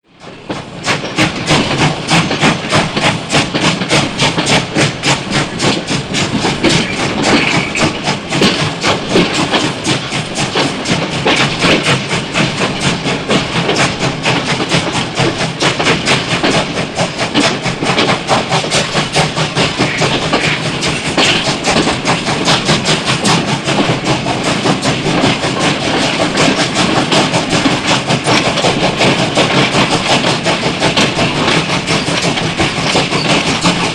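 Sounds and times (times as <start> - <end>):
steam locomotive chugging: 0.0 - 33.9
rail clatter: 0.2 - 33.9.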